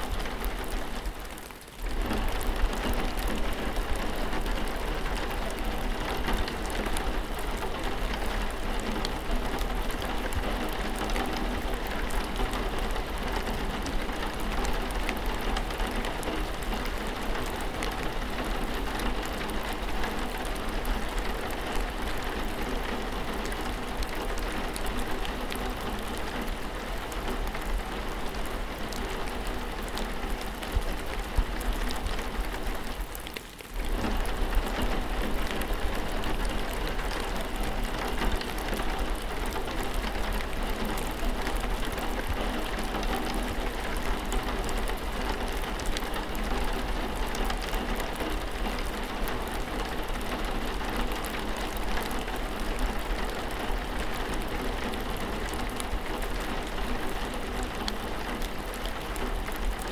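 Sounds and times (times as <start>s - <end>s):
rain with pattering drops: 0.0s - 59.9s.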